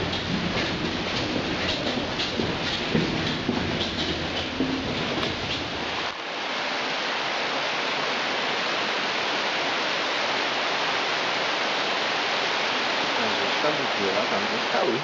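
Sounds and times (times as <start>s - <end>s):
water cascading into a pool: 0.0s - 15.0s.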